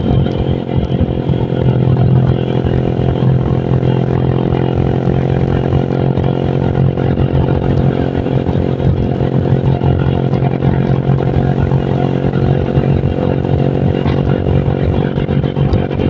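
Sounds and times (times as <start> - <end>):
scooter engine running: 0.0 - 16.0
wind on microphone: 0.0 - 16.0.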